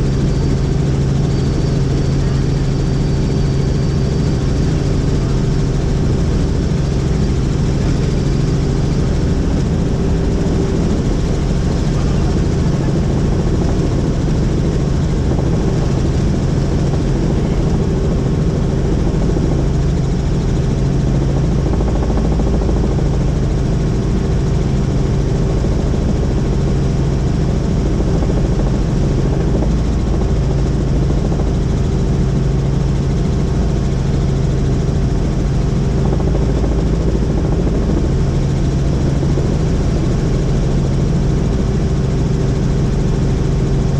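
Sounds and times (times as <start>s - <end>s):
helicopter rotor and engine: 0.0s - 43.9s.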